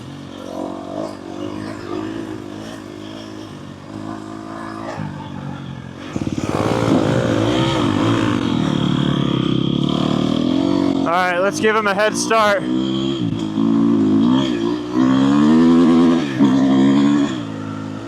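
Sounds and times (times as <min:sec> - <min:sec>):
dirt bike engine idling: 0:00.0 - 0:18.0
dirt bike engine revving: 0:00.0 - 0:18.0.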